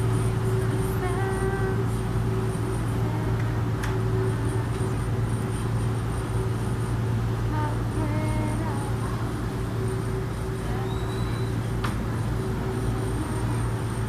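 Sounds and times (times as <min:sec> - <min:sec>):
ferry engine drone: 0:00.0 - 0:14.0.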